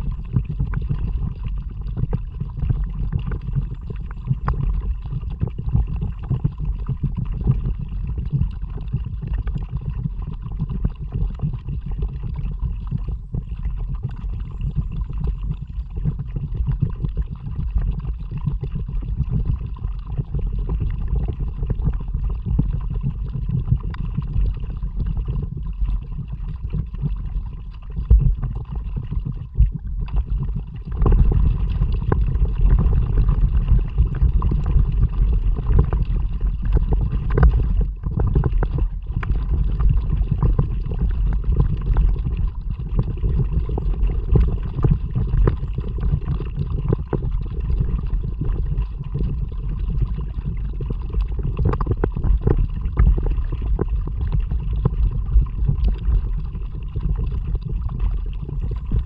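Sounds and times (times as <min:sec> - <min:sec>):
moving water: 0:00.0 - 0:59.0
paddle splashes and gurgles: 0:00.0 - 0:59.0.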